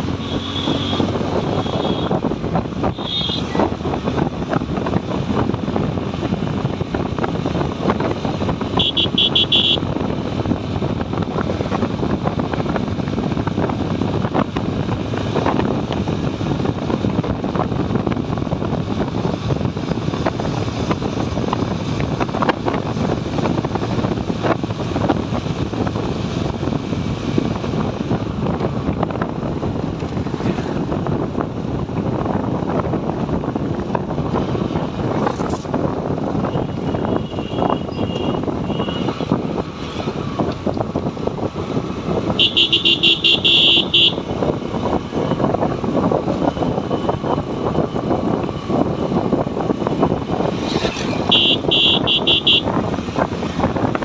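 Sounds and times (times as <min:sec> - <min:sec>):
motorcycle running: 0:00.0 - 0:54.0
wind noise on microphone: 0:00.0 - 0:54.0.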